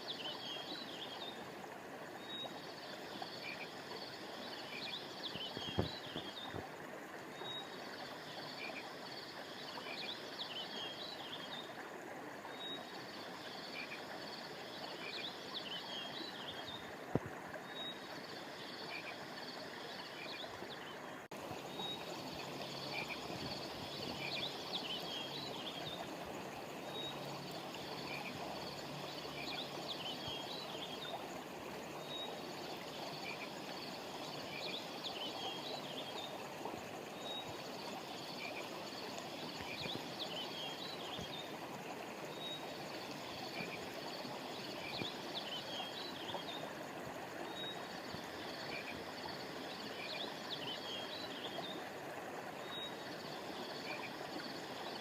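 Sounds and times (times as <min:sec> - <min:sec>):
frogs and insects chirping: 0:00.0 - 0:55.0
river flowing: 0:00.0 - 0:55.0.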